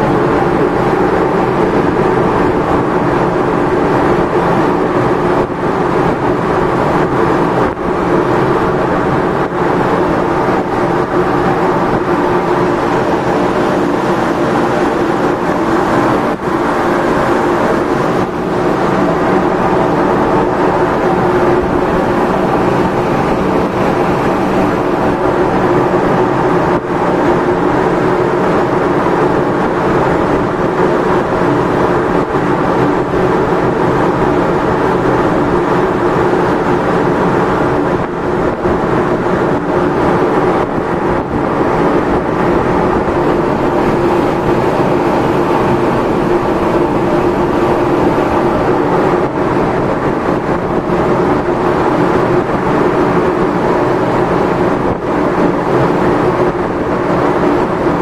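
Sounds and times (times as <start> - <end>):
rushing air and water: 0.0 - 58.0
ship engines droning: 0.0 - 58.0.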